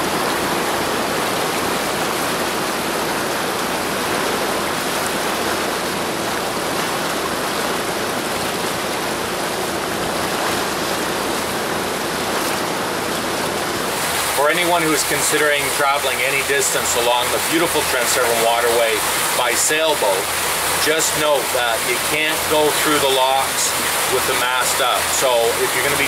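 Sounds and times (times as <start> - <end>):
faint low engine drone: 0.0 - 26.0
water rushing along boat hull: 0.0 - 26.0.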